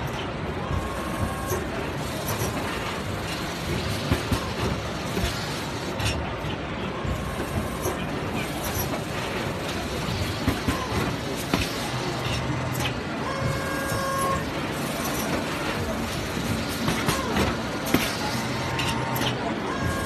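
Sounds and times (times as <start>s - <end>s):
exhibition hall noise: 0.0s - 20.0s
injection moulding machine running: 0.0s - 20.0s
machine clicks and knocks: 0.0s - 20.0s.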